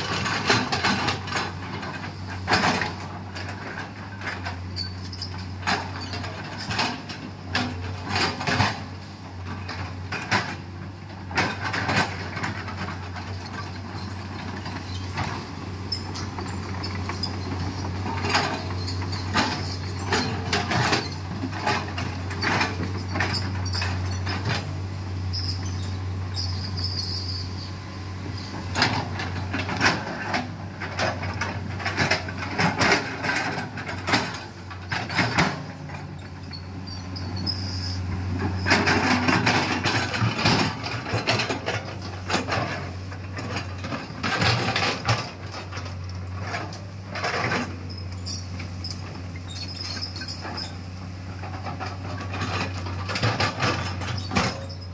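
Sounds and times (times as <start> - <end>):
bucket clanking and scraping soil: 0.0 - 54.9
excavator diesel engine running: 0.0 - 54.9.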